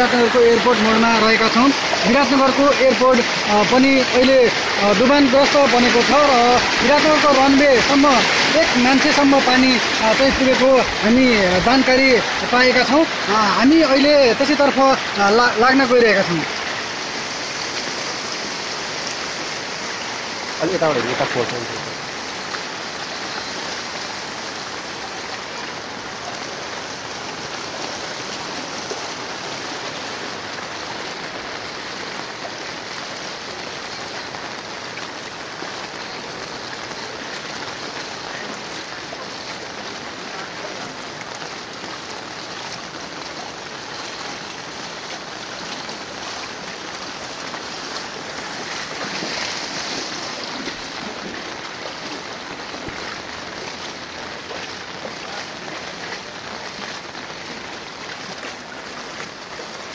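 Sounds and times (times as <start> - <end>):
water rushing over road: 0.0 - 59.9.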